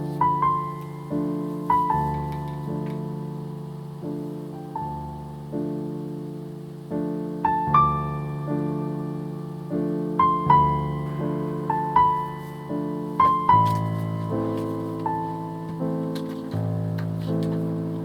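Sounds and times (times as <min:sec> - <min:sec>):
soft solo piano music: 0:00.0 - 0:18.0.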